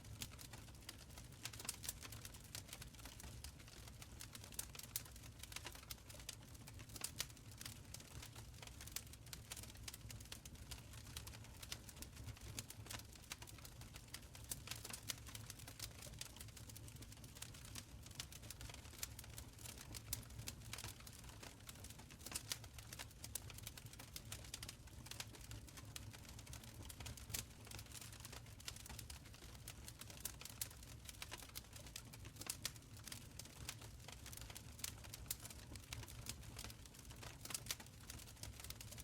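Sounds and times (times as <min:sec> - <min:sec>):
wood fire crackling and popping: 0:00.1 - 0:39.0.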